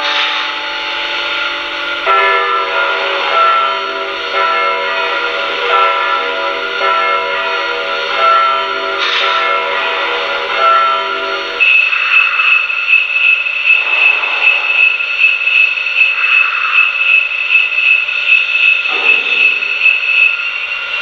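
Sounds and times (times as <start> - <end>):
locomotive bell ringing: 0.0 - 21.0.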